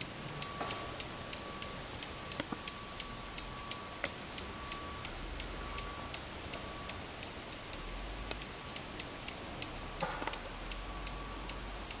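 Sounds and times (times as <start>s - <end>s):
finch alarm chips: 0.0s - 12.0s.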